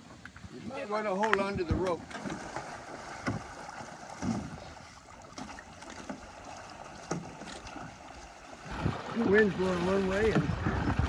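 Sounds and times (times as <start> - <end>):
wind and water hiss: 0.0 - 11.0.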